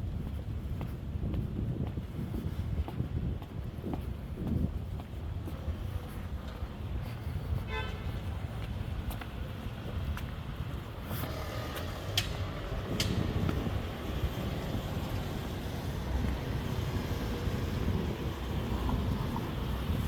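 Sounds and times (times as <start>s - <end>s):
rumble of passing cars and trucks: 0.0s - 20.0s.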